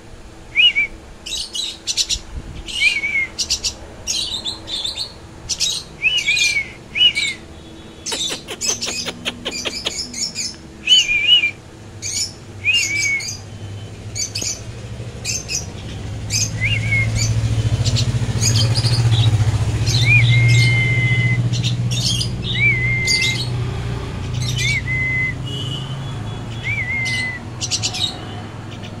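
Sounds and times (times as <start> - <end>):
low engine-like hum: 0.0 - 29.0
birds squawking and chirping: 0.6 - 29.0.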